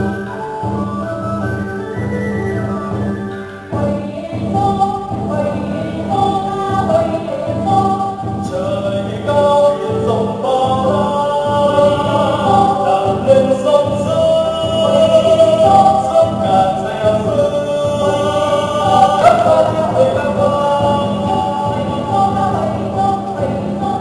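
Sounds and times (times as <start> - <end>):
instrumental accompaniment: 0.0 - 24.0
voices singing together: 0.0 - 24.0.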